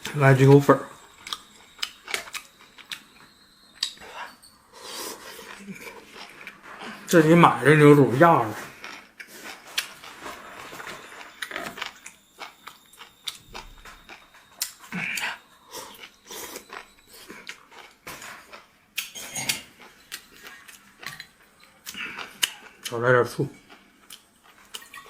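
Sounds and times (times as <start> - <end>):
person chewing: 0.9 - 7.3, 8.5 - 25.0.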